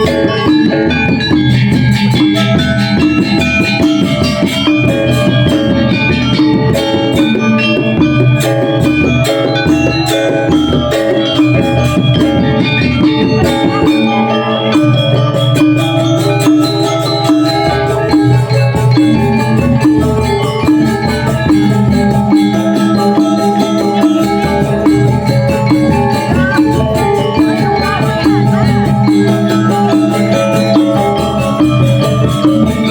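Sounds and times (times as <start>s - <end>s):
drum strokes: 0.0s - 32.9s
metallophones ringing: 0.0s - 32.9s.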